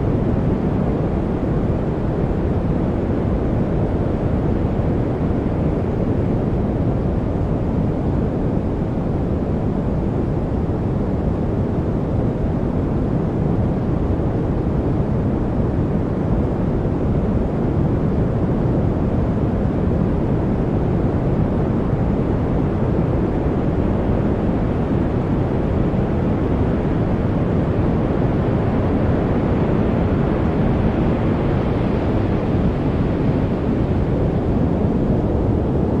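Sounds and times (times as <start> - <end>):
deep low white noise rush: 0.0 - 36.0.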